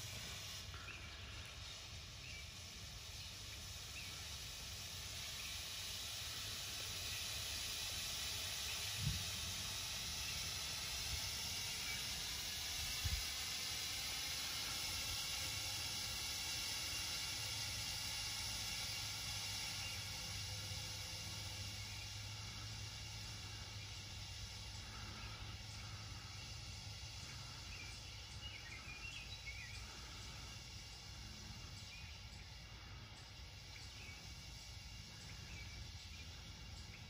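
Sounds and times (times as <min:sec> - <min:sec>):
smoke sticks hissing: 0:00.0 - 0:37.0.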